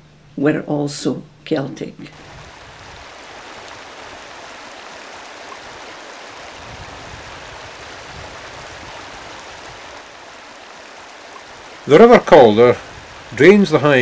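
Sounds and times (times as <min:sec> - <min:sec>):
stream flowing over stones: 0:02.1 - 0:14.0.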